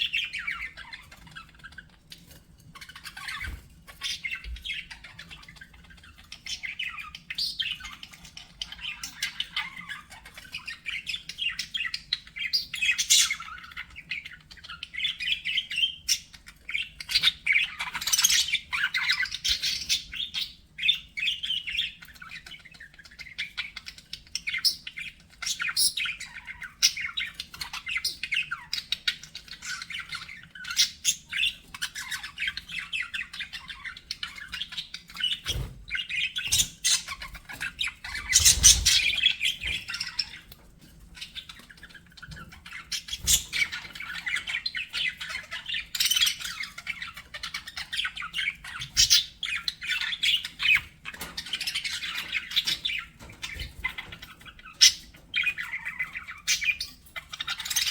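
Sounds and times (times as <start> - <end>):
budgerigars chattering: 0.0 - 57.9.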